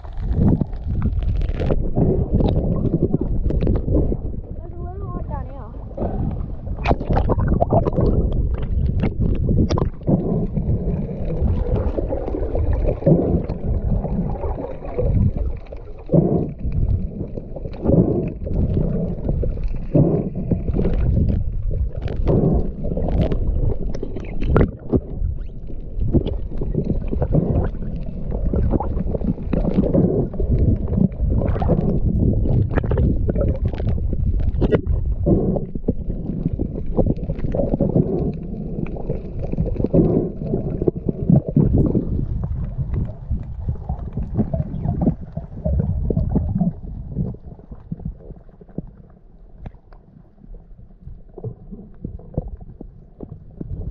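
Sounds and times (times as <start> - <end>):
underwater rumble and gurgling: 0.0 - 53.9.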